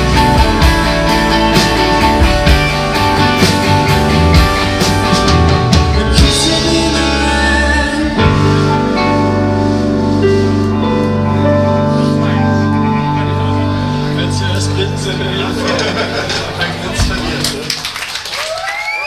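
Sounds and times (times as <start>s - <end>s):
rock band playing live: 0.0s - 18.3s.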